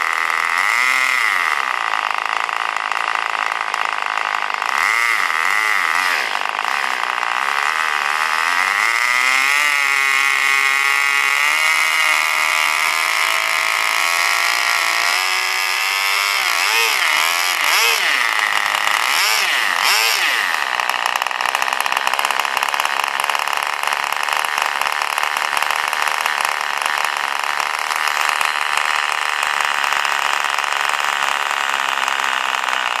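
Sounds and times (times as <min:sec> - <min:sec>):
model plane engine revving: 0:00.0 - 0:33.0.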